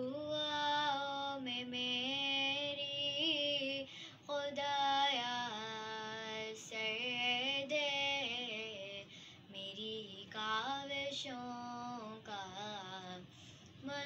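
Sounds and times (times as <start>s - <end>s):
girl singing: 0.0s - 14.0s.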